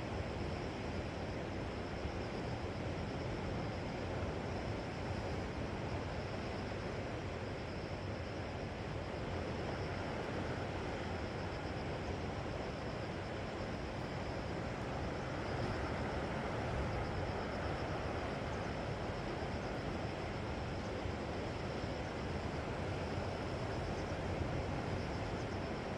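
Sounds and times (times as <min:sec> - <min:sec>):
wind: 0:00.0 - 0:25.9.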